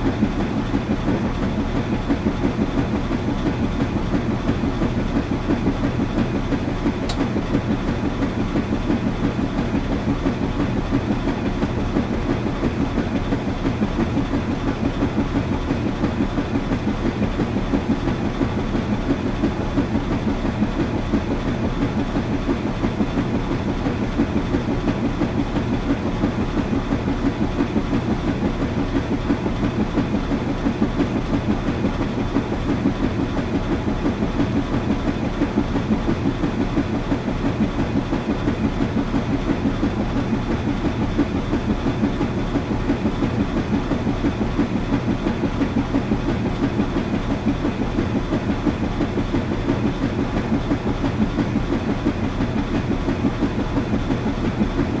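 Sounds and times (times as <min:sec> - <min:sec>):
washing machine running: 0:00.0 - 0:55.0.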